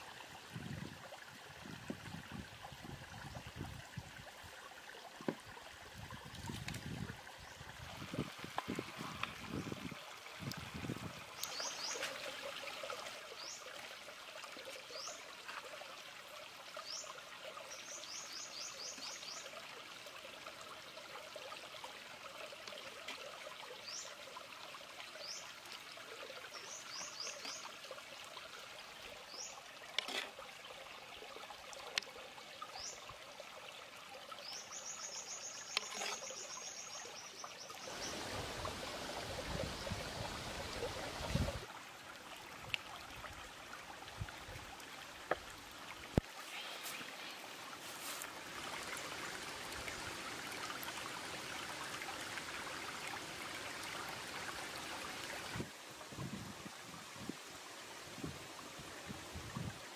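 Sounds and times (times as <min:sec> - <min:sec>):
small stream trickling: 0:00.0 - 0:59.9.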